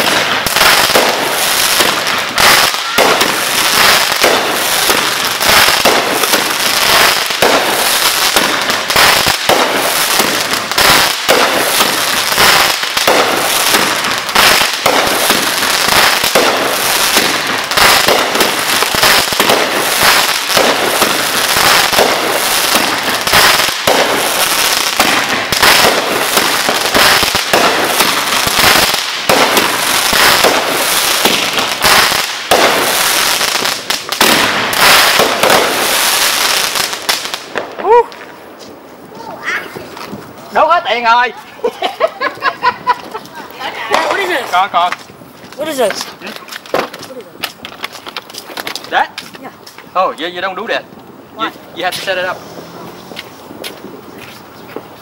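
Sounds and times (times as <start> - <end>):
fireworks crackling: 0.0 - 55.0
fireworks popping and banging: 0.0 - 55.0.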